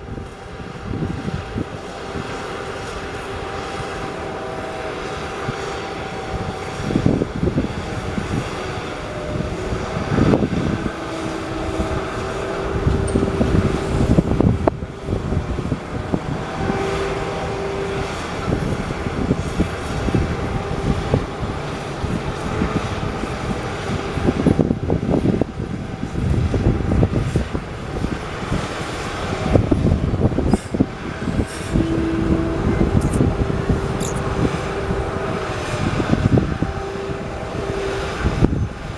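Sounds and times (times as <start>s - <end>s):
diesel engine rumble: 0.0s - 38.9s
whining tone: 0.0s - 38.9s.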